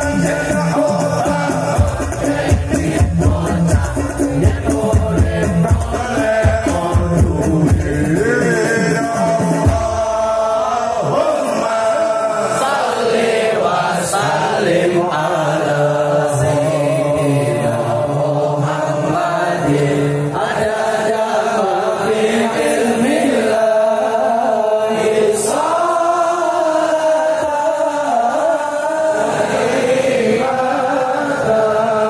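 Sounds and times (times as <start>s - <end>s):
amplified devotional singing: 0.0s - 32.0s
crowd singing along: 0.0s - 32.0s.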